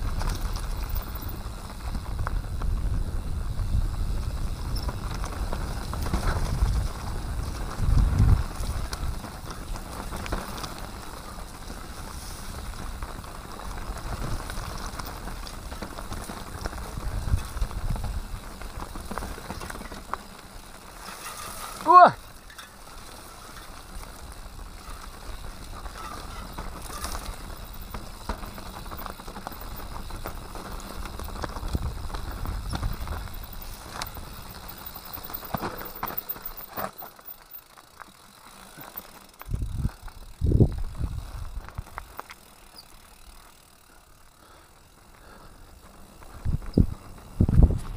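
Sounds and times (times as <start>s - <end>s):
bike rattling over stones: 0.0s - 47.9s
bike tyres rolling on dirt: 0.0s - 47.9s.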